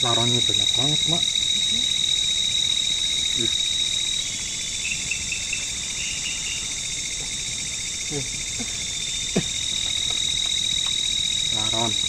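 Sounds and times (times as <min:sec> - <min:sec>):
insects whining and trilling: 0:00.0 - 0:12.0
short insect chirps: 0:00.0 - 0:12.0.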